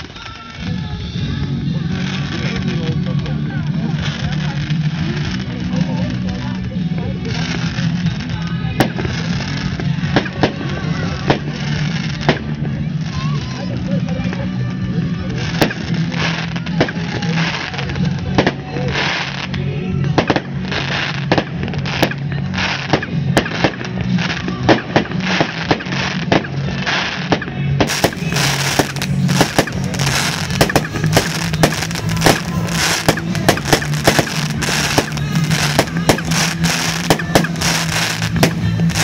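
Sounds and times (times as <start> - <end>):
fireworks banging: 0.0 - 39.0.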